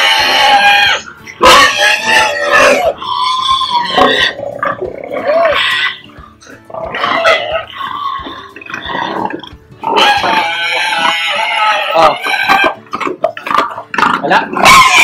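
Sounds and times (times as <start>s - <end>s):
pigs squealing: 0.0s - 15.0s.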